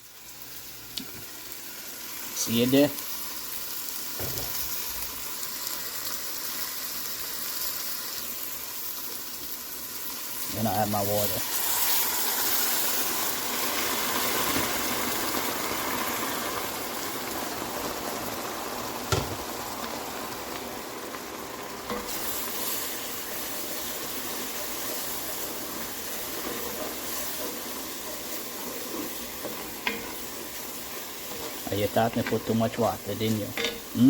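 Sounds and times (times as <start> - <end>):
pot sizzling: 0.0 - 34.0.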